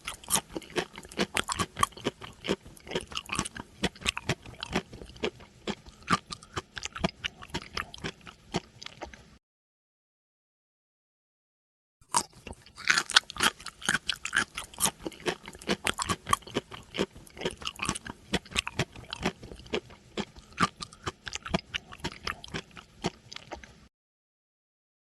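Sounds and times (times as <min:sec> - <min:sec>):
animal chewing crunchy food: 0:00.0 - 0:09.2, 0:12.1 - 0:23.8.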